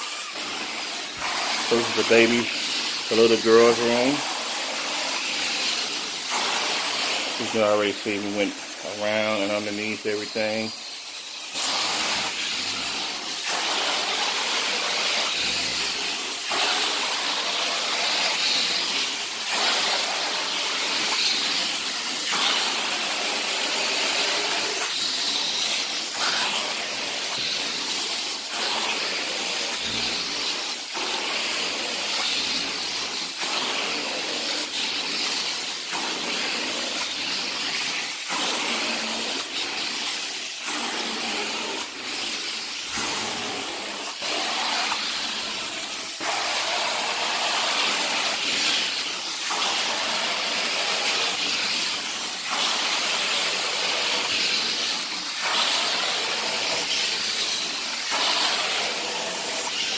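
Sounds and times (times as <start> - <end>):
carpet extraction wand hissing: 0.0 - 59.9.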